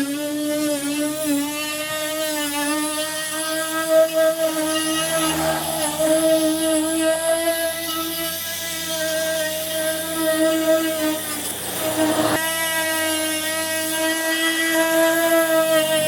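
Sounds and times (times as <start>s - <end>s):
hiss: 0.0s - 16.0s
motor whining: 0.0s - 16.0s.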